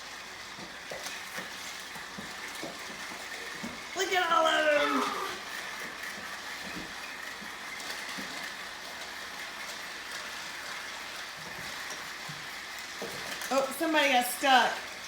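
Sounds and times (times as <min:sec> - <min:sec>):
toy train motors whirring: 0:00.0 - 0:15.0.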